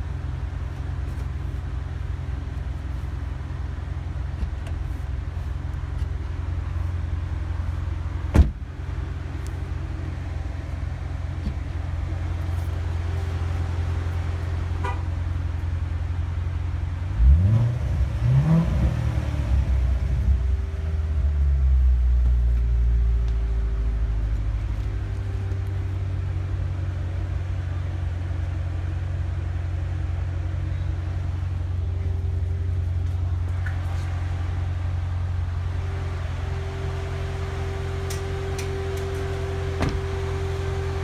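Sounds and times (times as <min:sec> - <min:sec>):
car engine droning: 0:00.0 - 0:41.0.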